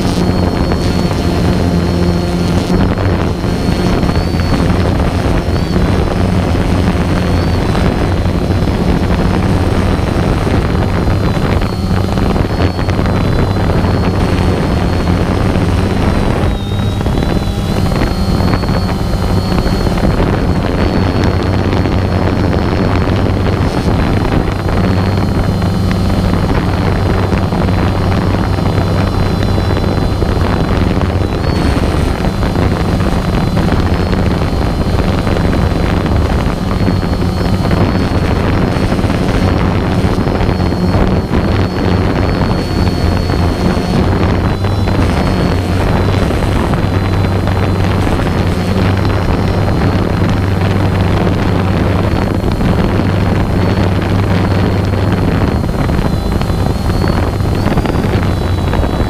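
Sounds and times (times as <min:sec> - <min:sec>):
small engine with thin whine: 0:00.0 - 0:59.0
wind buffeting microphone: 0:00.0 - 0:59.0.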